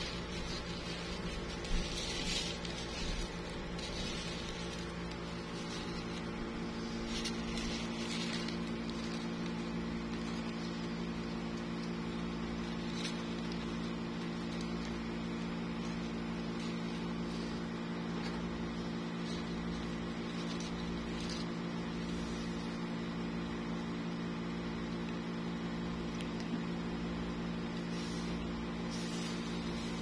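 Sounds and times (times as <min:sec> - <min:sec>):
low machine hum: 0:00.0 - 0:30.0
tissue paper rustling: 0:00.0 - 0:30.0.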